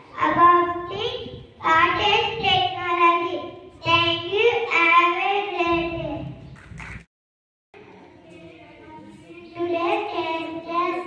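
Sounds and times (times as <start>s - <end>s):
child singing into a microphone: 0.0s - 6.3s, 8.3s - 11.0s.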